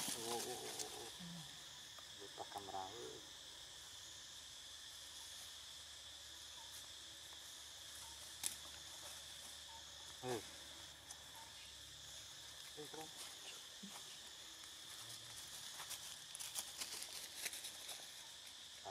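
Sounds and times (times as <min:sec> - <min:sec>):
insects chorus: 0:00.0 - 0:18.9.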